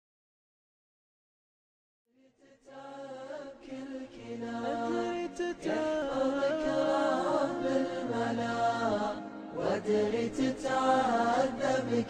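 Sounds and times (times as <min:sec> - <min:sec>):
person chanting devotional song: 0:02.2 - 0:12.0.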